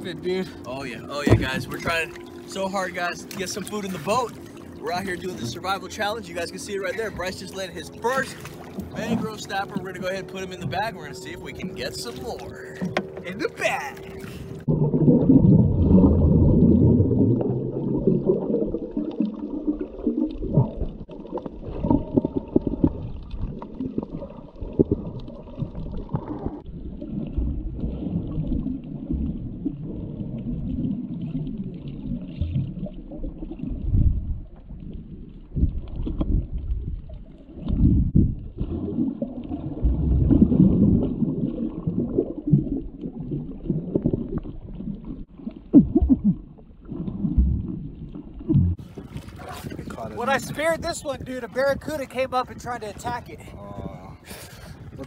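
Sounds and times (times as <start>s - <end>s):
muffled underwater rumbling: 0.0s - 55.0s
water gurgling and bubbles: 0.0s - 55.0s.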